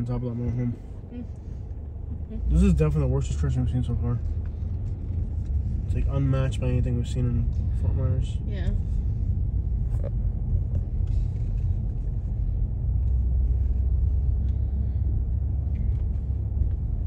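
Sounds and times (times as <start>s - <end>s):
tyre and engine rumble: 0.0s - 17.0s.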